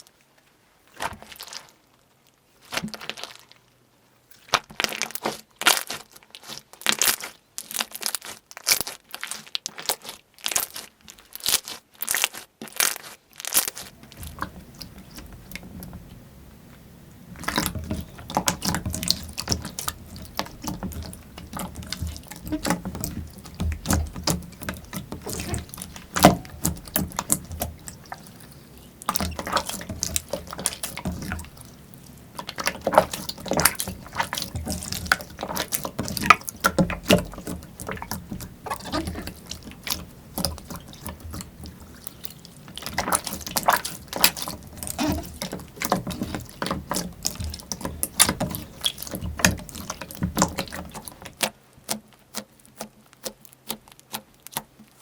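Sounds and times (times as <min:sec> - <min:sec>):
slime squishing and crackling: 0:00.9 - 0:01.8, 0:04.4 - 0:16.3, 0:17.2 - 0:55.0.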